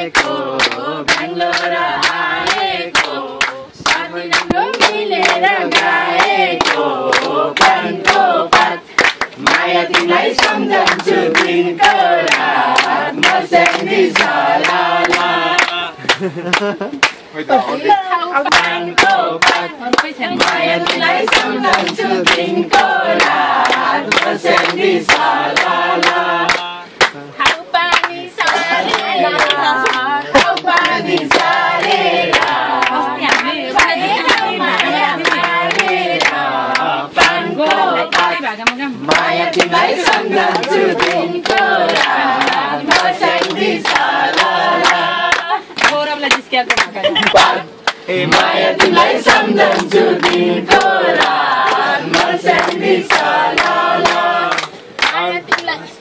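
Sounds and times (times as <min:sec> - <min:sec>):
group singing in chorus: 0:00.0 - 0:16.8, 0:17.8 - 0:55.5
hand-clapping: 0:00.0 - 0:17.2, 0:18.4 - 0:55.8.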